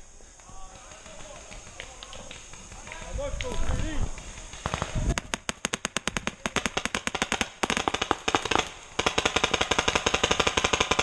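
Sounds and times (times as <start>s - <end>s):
paintball marker firing rapidly: 0.4s - 11.0s.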